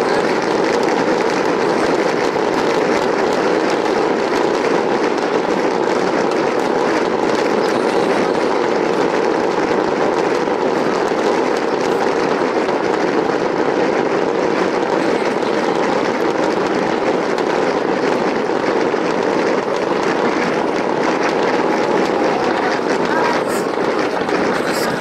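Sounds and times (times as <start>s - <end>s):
distant fireworks bursting: 0.0s - 25.0s
fireworks crackling: 0.0s - 25.0s.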